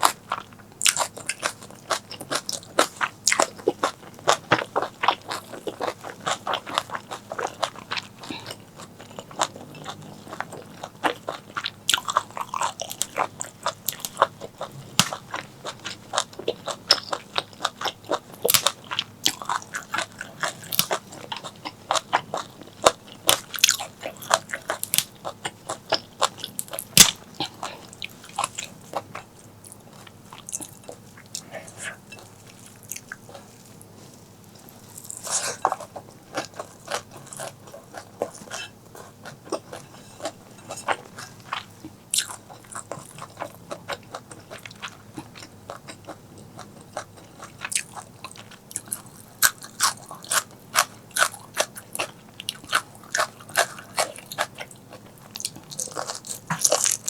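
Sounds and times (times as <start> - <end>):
chewing with wet crunches: 0.0 - 57.0.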